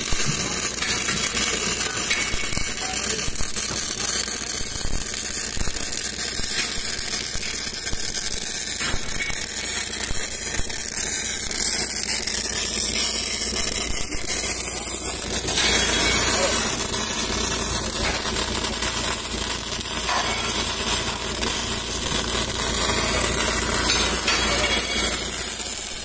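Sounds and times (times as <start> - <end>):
welding arc hissing and crackling: 0.0 - 26.0.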